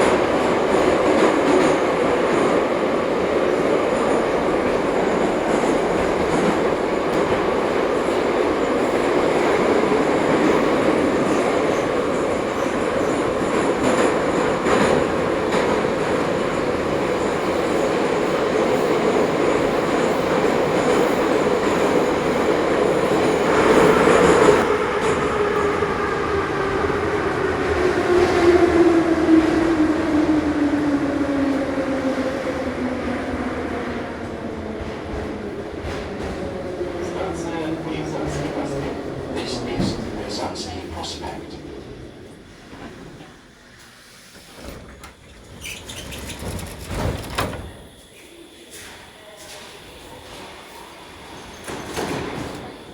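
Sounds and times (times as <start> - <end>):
metro train wheel and motor noise: 0.0 - 52.9.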